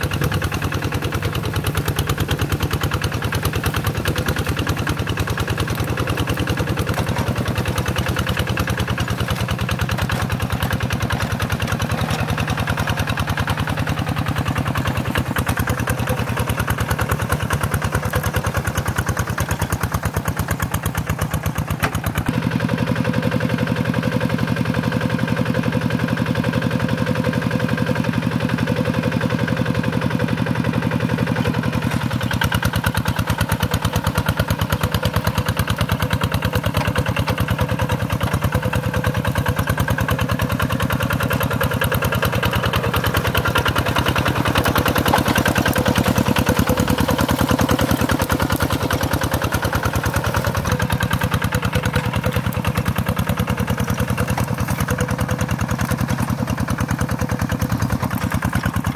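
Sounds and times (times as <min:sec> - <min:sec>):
diesel engine chugging: 0:00.0 - 0:58.9.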